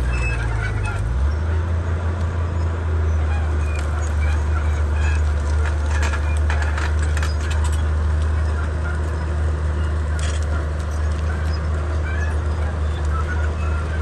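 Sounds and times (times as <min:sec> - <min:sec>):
short high squeaks: 0:00.0 - 0:01.1, 0:03.3 - 0:14.0
bulldozer diesel engine drone: 0:00.0 - 0:14.0.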